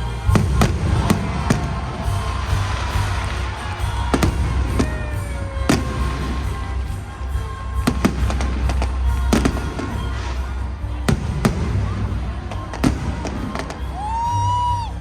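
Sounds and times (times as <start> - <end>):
stadium music on loudspeakers: 0.0 - 15.0
fireworks bangs: 0.2 - 14.9.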